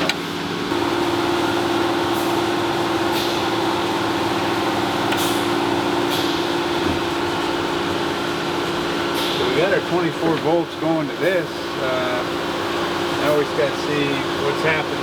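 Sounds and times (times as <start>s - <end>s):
furnace motor humming: 0.0s - 15.0s.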